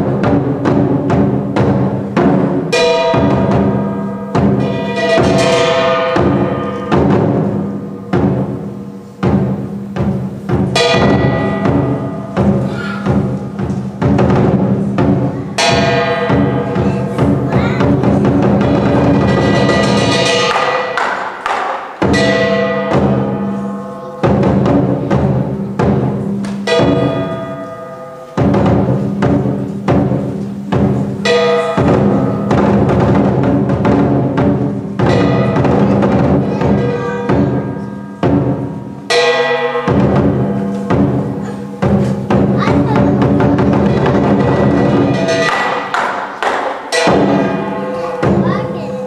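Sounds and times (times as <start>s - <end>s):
cymbal clashes: 0.0s - 49.0s
gong ringing: 0.0s - 49.0s
large drum beating: 0.0s - 49.0s.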